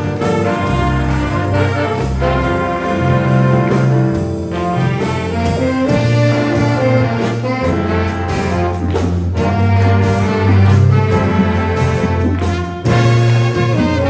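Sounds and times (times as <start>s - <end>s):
jazz big band playing: 0.0s - 14.0s.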